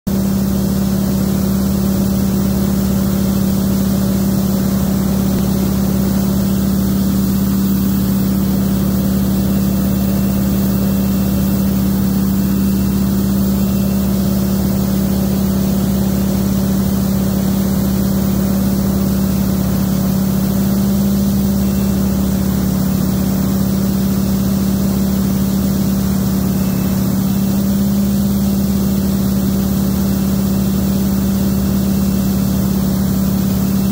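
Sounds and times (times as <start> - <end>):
propeller engine droning: 0.1 - 33.9.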